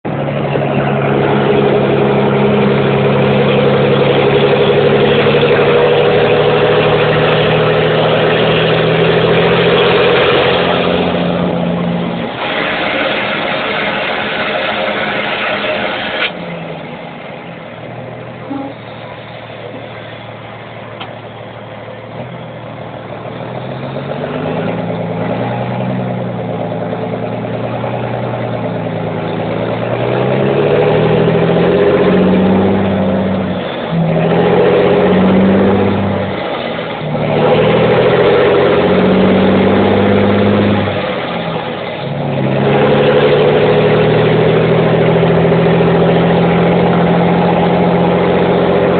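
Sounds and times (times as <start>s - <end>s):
truck diesel engine revving: 0.0s - 48.9s.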